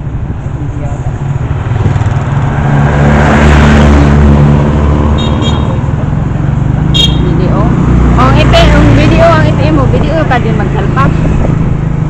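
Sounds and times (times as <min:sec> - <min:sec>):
vehicle passing close by: 0:00.6 - 0:12.0.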